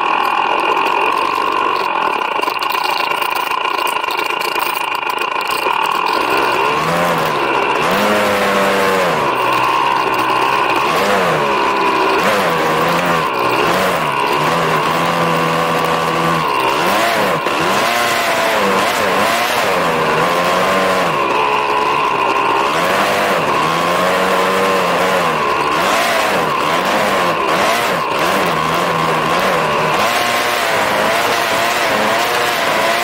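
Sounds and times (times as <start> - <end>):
high whine: 0.0 - 33.0
snowbike engine revving: 0.0 - 33.0.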